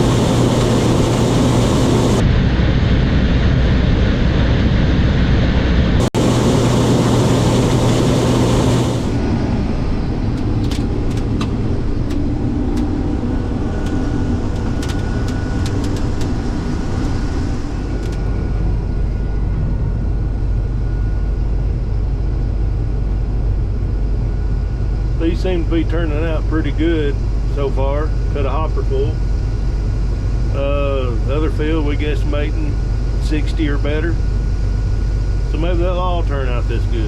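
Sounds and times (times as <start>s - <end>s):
faint steady whine: 0.0s - 2.3s, 6.1s - 37.0s
combine harvester droning: 0.0s - 2.6s, 5.1s - 37.0s.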